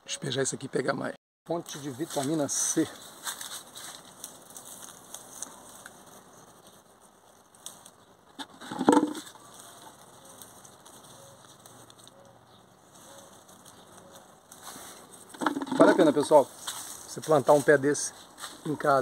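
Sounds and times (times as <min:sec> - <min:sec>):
leaves and twigs rustling: 0:01.5 - 0:19.0.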